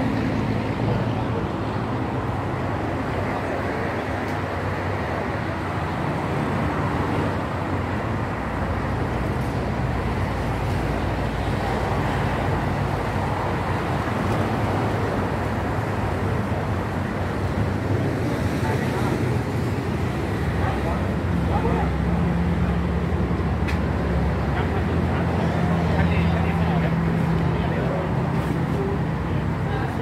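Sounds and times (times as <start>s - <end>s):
outdoor background rumble: 0.0s - 30.0s.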